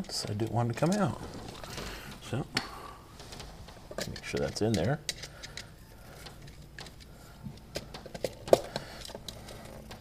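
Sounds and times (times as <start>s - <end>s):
wires clicking into outlet terminals: 0.0s - 10.0s.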